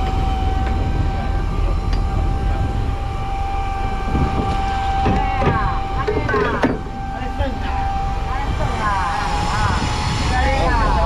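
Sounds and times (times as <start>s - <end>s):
boat engine rumbling with whine: 0.0s - 11.0s.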